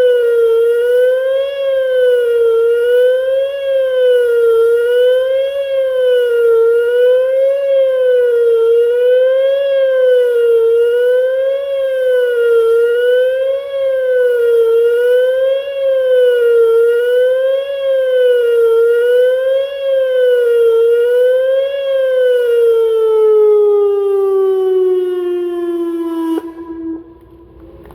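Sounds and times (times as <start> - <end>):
wavering warning siren: 0.0 - 27.9.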